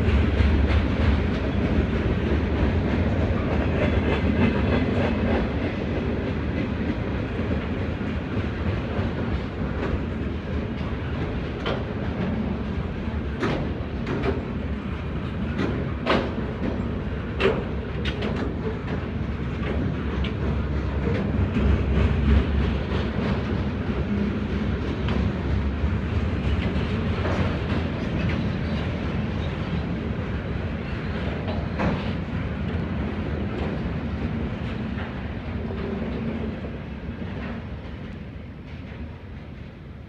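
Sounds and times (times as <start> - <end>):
freight cars rolling on rails: 0.0 - 39.8.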